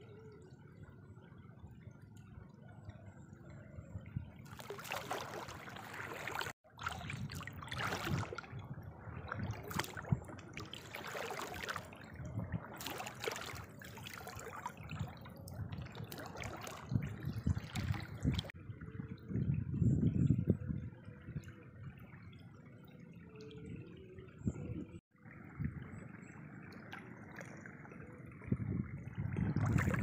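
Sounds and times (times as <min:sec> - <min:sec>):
shallow water sloshing and trickling: 0:00.0 - 0:30.0
small water splashes: 0:02.2 - 0:30.0.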